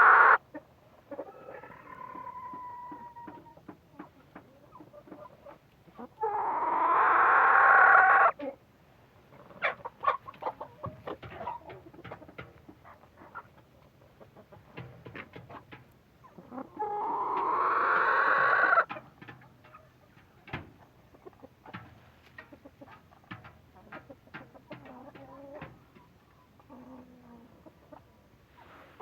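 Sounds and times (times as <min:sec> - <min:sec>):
hens clucking: 0:00.0 - 0:08.6, 0:09.2 - 0:29.0.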